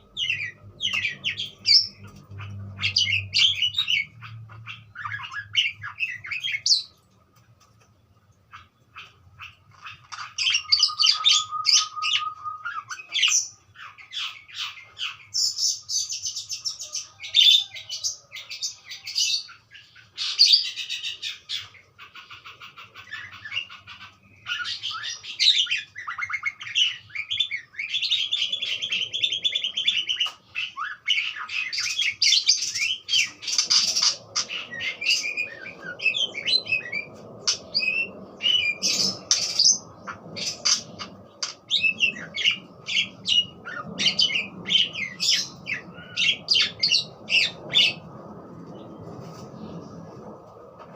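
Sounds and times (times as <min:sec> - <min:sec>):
budgerigars chattering: 0:00.0 - 0:06.9, 0:08.5 - 0:16.1, 0:18.4 - 0:48.0.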